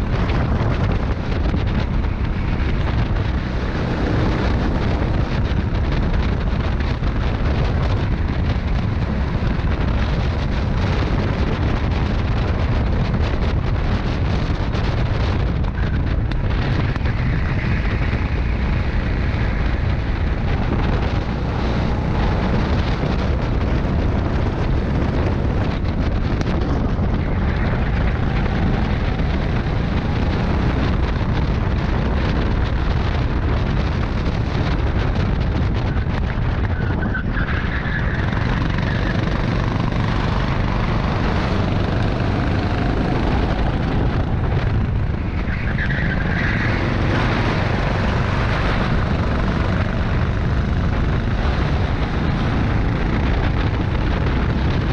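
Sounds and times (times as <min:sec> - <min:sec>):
go-kart engine racing: 0:00.0 - 0:54.9
wind buffeting microphone: 0:00.0 - 0:54.9.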